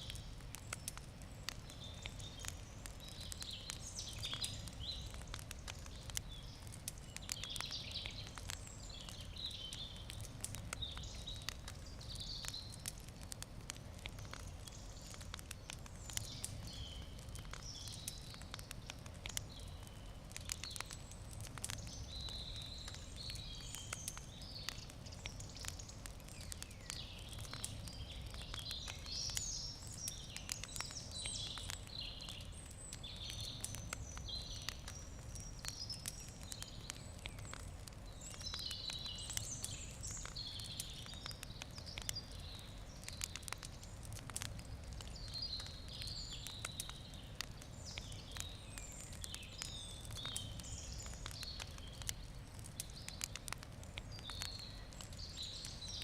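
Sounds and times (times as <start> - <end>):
campfire crackling and popping: 0.0 - 56.0
birds chirping: 0.1 - 12.8, 14.1 - 56.0.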